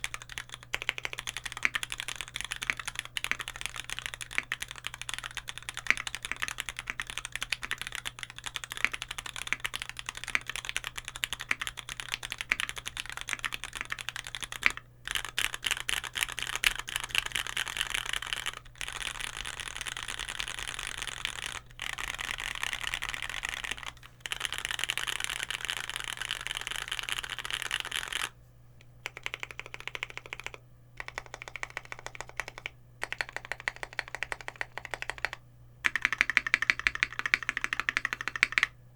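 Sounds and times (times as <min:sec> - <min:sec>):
fast typing on keyboard: 0:00.0 - 0:28.3, 0:29.0 - 0:38.8.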